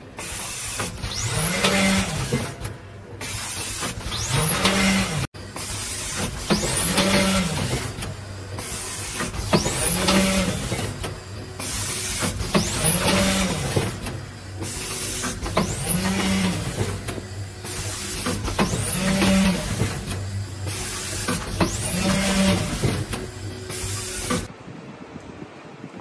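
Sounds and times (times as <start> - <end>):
hiss of air: 0.2 - 1.2, 3.2 - 4.3, 5.6 - 24.5
machine rising whine: 3.6 - 24.5.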